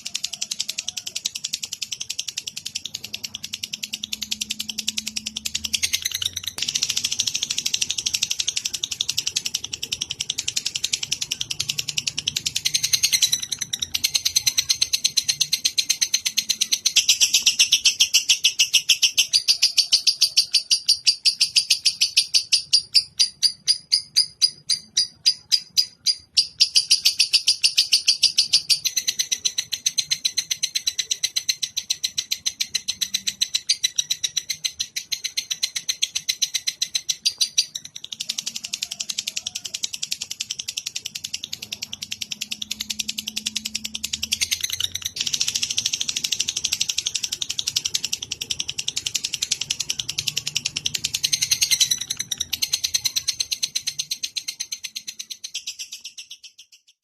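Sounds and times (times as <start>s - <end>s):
songbird chirping rapidly: 0.0s - 57.0s.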